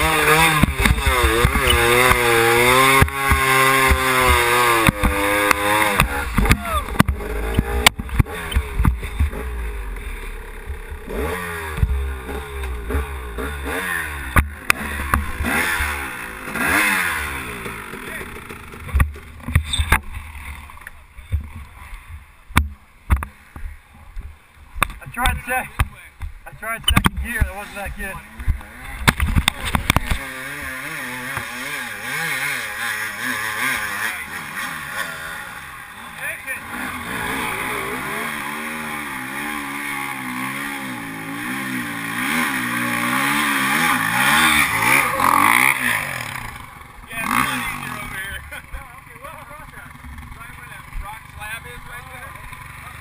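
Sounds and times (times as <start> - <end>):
dirt bike engine revving: 0.0 - 22.1, 26.5 - 53.0.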